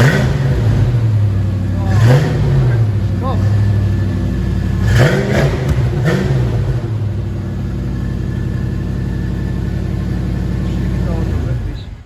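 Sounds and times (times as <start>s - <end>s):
car engine idling: 0.0s - 12.0s
engine throttle blip: 0.0s - 12.0s.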